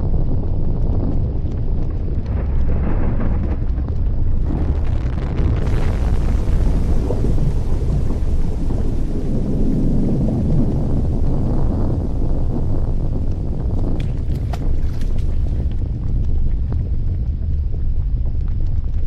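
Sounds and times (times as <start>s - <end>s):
scattered crackles: 0.0s - 19.0s
volcano rumble: 0.0s - 19.0s.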